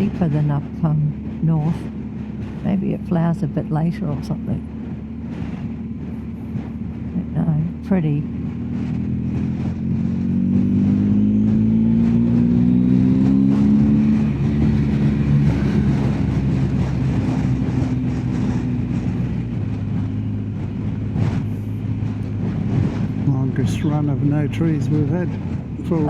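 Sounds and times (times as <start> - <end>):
road noise: 0.0 - 26.0
wind noise: 0.0 - 26.0.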